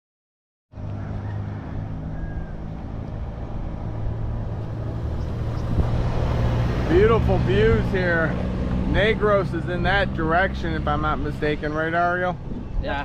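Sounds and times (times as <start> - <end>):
road and wind noise: 0.7 - 13.0
vehicle engine running: 0.8 - 12.0.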